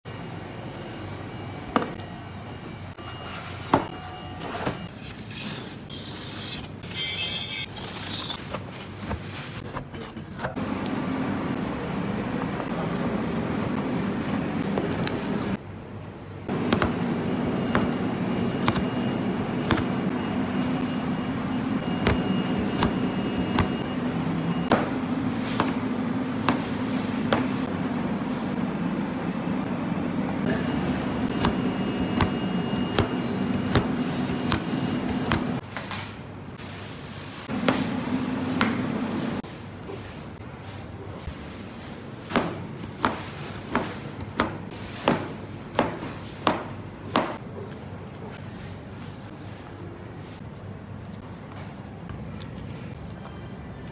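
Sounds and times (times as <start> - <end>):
kitchen ventilation hum: 0.0 - 53.9.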